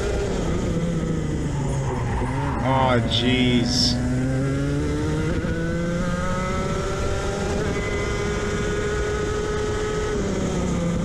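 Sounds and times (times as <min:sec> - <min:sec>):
kart engine at high revs: 0:00.0 - 0:11.0.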